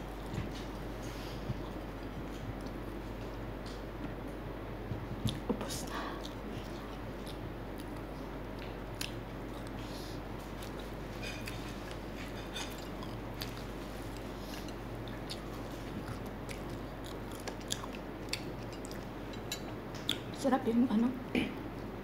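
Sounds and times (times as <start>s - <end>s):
chewing fried chicken: 0.0s - 3.9s, 5.1s - 20.4s
steady low hum: 0.0s - 22.0s.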